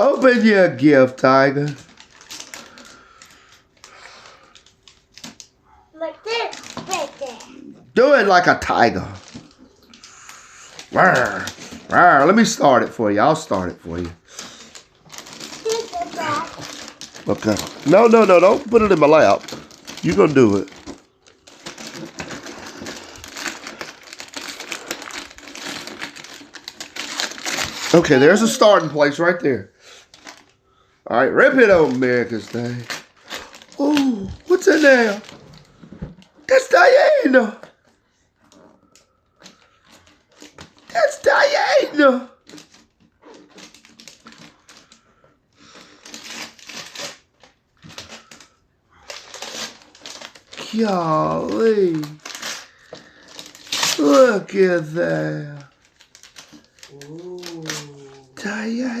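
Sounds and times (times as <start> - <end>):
packaging crackling and rustling: 0.0 - 30.6, 31.2 - 59.0
wrapping paper crinkling: 0.0 - 59.0.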